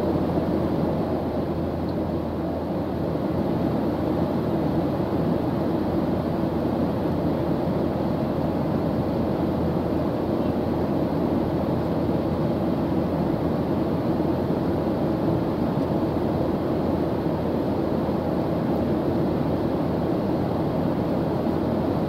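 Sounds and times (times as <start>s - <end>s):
jet airliner cabin noise: 0.0s - 22.0s.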